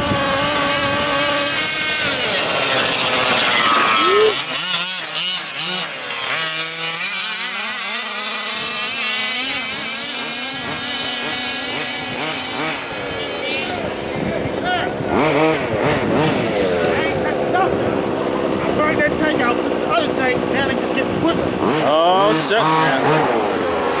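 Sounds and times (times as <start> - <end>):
small two-stroke engine revving: 0.0 - 24.0.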